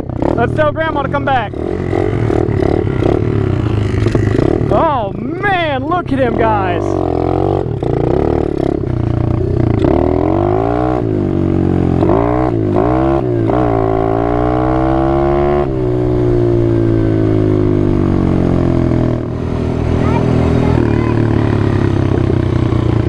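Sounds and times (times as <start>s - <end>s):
quad engine revving: 0.0s - 23.0s.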